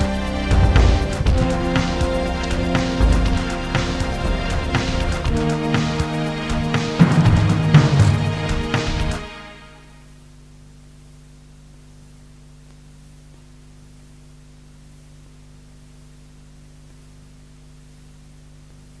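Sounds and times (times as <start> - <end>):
low electrical hum: 0.0 - 19.0
tape hiss: 0.0 - 19.0.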